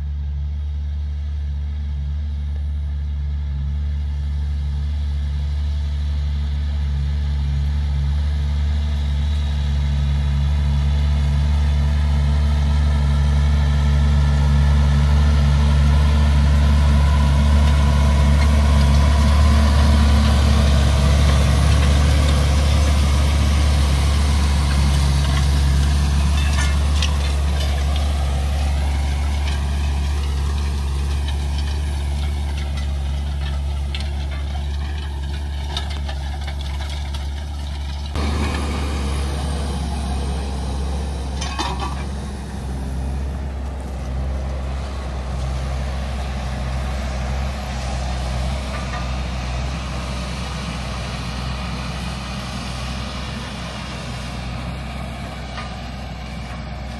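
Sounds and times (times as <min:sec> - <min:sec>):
tractor diesel engine working: 0:00.0 - 0:56.9.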